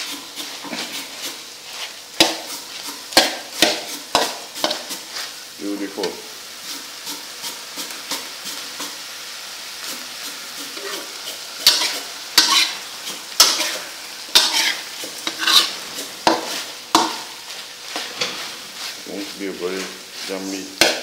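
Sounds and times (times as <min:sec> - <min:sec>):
metal spoon scraping a pan: 0:00.0 - 0:05.4, 0:06.6 - 0:09.0, 0:09.8 - 0:21.0
meat sizzling in a wok: 0:00.0 - 0:21.0.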